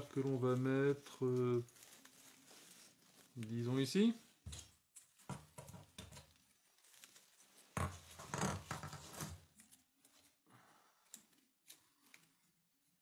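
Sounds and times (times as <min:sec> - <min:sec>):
rustling of wreath and garland: 0:00.0 - 0:13.0.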